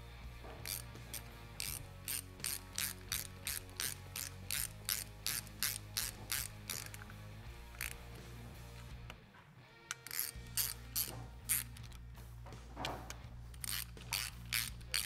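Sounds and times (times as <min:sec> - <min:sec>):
hand ratchet clicking: 0:00.6 - 0:09.2, 0:09.9 - 0:12.0, 0:12.8 - 0:15.0.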